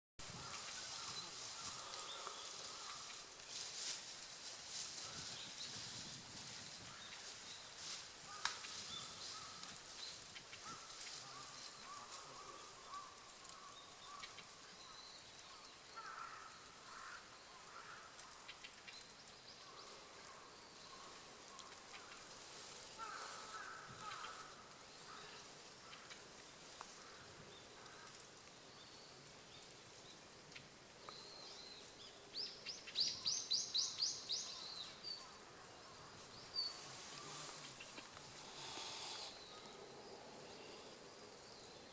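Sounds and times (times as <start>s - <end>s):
steady high hiss: 0.2s - 41.9s
distant bird calls: 0.3s - 3.3s, 6.8s - 41.9s.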